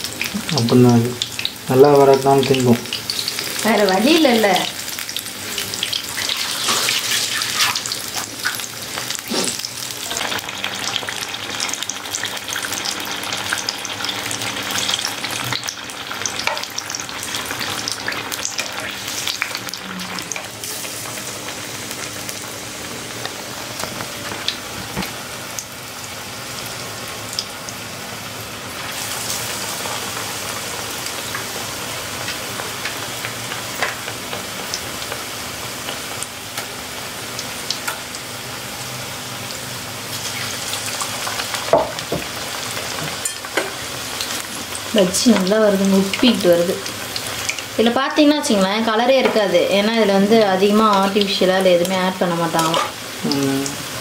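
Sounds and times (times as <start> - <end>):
fritters sizzling in hot oil: 0.0 - 54.0.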